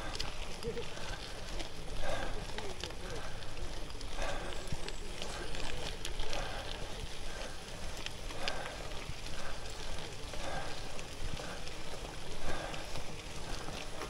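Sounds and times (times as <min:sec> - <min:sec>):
bike tyres crunching on gravel: 0:00.0 - 0:14.0.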